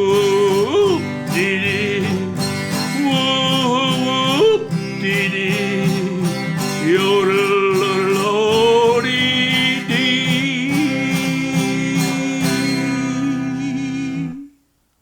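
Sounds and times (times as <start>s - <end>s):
man singing yodelled note: 0.0s - 14.6s
strummed guitar: 0.0s - 14.6s.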